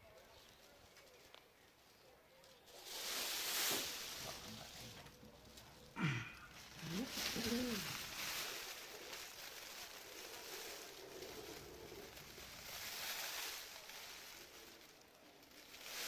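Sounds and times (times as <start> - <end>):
foil rustling: 0.1 - 16.0.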